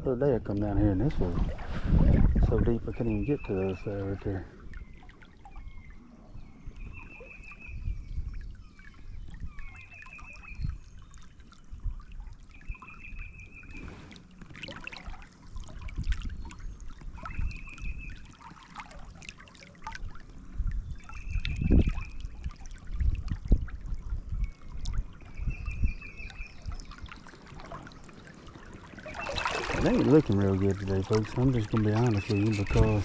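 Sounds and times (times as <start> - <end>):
creek water trickling: 0.0 - 33.0.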